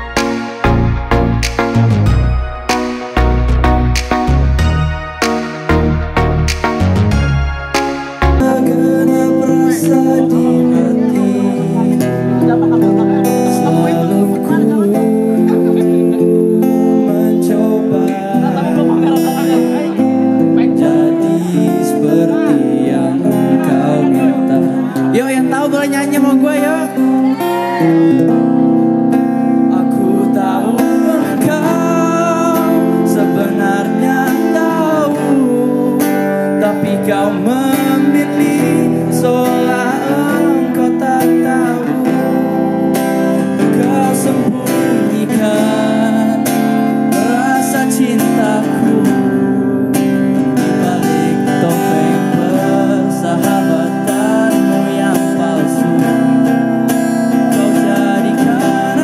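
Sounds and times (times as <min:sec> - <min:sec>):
acoustic guitar: 0:00.0 - 0:59.0.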